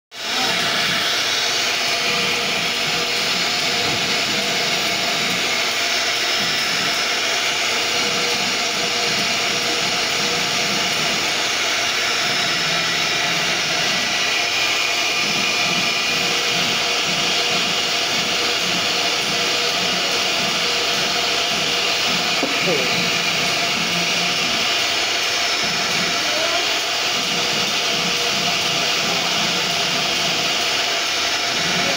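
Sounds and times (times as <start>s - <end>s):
router spindle whine: 0.1s - 31.9s.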